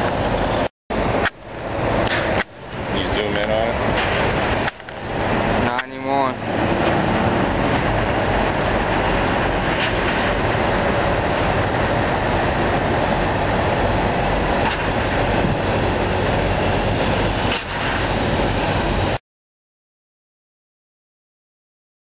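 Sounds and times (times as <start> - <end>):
roaring outdoor background noise: 0.0 - 19.2.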